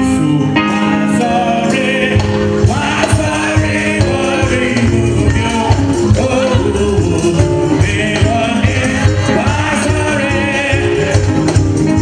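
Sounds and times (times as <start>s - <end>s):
keyboard: 0.0s - 12.0s
steady beat: 0.6s - 12.0s
women singing gospel: 1.2s - 11.6s.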